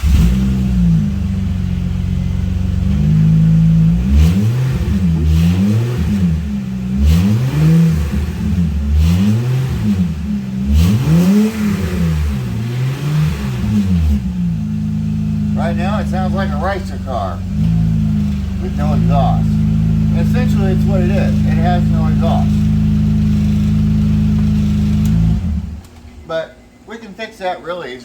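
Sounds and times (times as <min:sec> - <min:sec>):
car engine idling and revving: 0:00.0 - 0:26.7.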